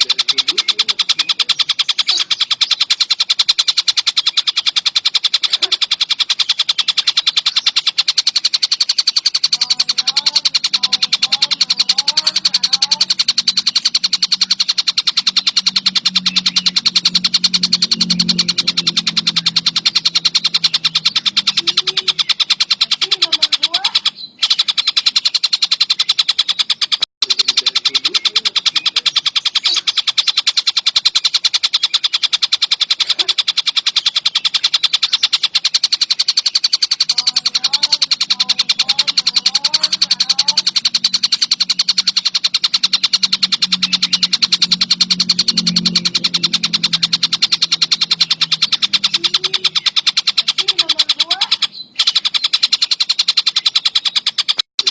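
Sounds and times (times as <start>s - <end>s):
kingfisher harsh repeated calls: 0.0s - 54.9s.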